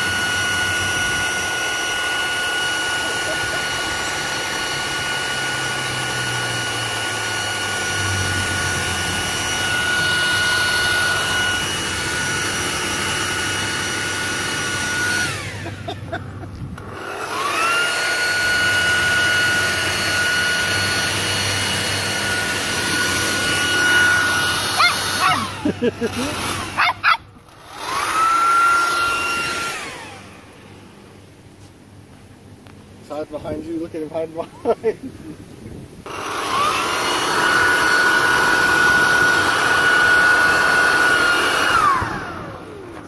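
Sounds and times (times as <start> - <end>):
leaf blower whining: 0.0 - 43.0.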